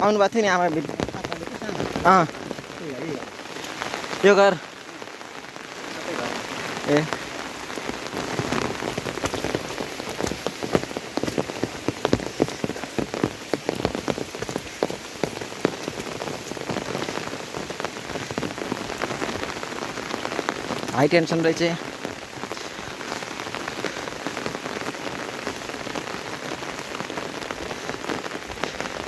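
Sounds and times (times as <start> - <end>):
close raindrop hits: 0.0 - 29.0
heavy rain falling: 0.0 - 29.0.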